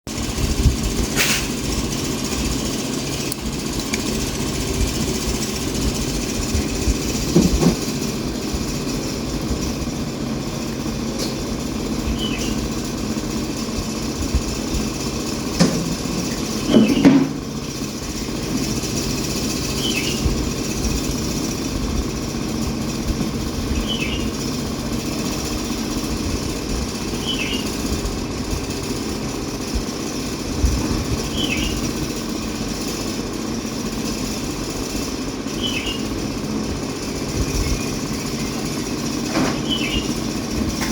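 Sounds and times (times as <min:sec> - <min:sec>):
motor running: 0:00.1 - 0:40.9.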